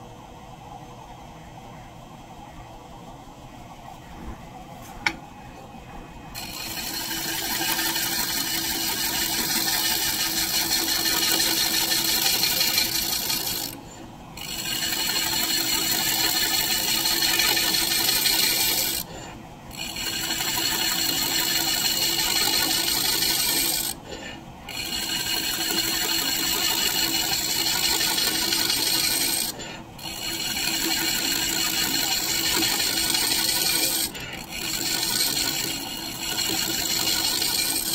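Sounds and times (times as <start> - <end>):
scraper cutting wood on lathe: 6.4 - 37.9.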